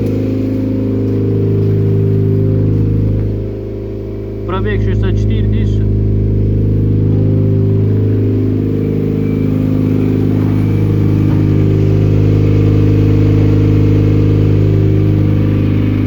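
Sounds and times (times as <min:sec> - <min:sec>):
loud unmuffled car engine: 0:00.0 - 0:16.0.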